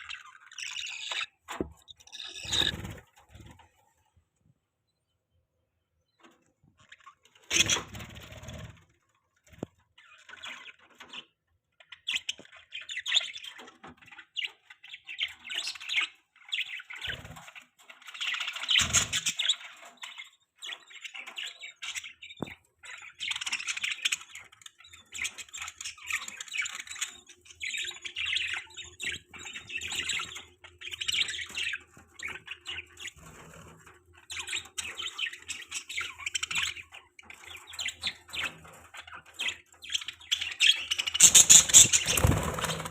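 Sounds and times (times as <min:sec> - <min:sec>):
budgerigars chirping and warbling: 0:00.0 - 0:03.8, 0:06.2 - 0:42.9.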